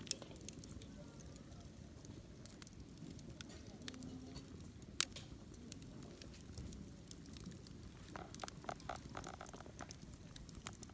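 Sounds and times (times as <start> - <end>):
campfire crackling: 0.0 - 10.9
fire pops and snaps: 0.0 - 10.9.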